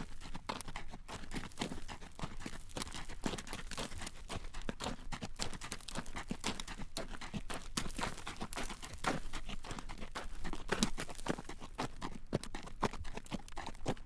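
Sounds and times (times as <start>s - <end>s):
horse hooves clip-clopping on road: 0.0s - 14.0s.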